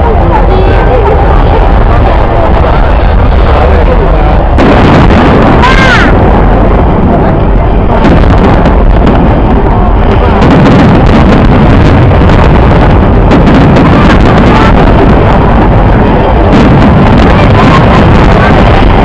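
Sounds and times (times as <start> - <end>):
fireworks barrage rumble: 0.0 - 19.0
fireworks cracking and popping: 0.0 - 19.0.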